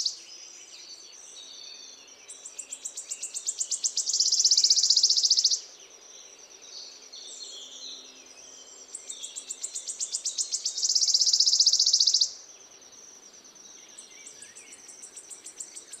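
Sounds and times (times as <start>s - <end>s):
songbird buzzing trills: 0.0s - 16.0s.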